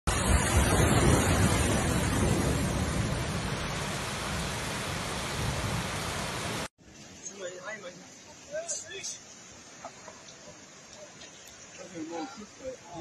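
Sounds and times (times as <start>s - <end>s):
heavy rain rushing: 0.1s - 11.8s.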